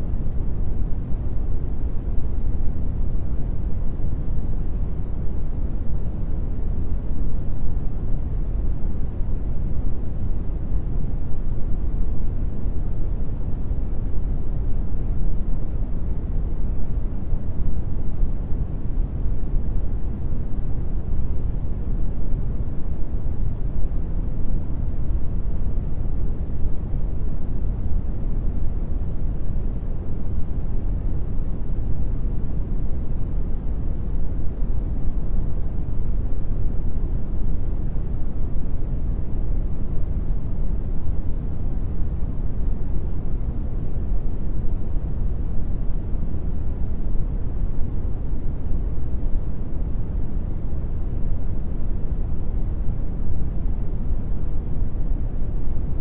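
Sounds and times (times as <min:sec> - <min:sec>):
brown noise hiss: 0:00.0 - 0:56.0.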